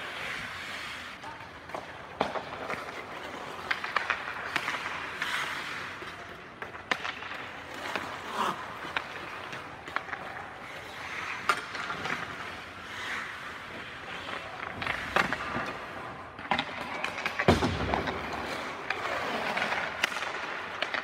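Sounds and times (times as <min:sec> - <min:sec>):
skate blades scraping ice: 0:00.0 - 0:21.0
stick hitting puck: 0:01.6 - 0:12.4, 0:14.3 - 0:21.0.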